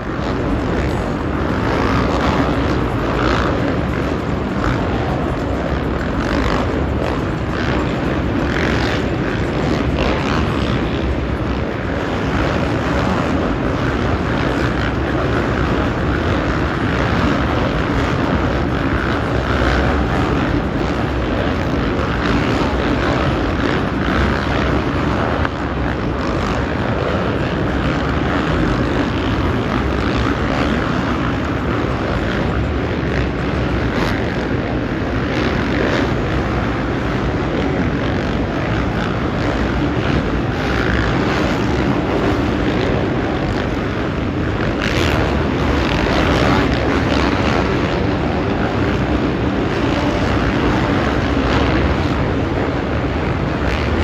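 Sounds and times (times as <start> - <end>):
dirt bike engines droning: 0.0 - 54.0.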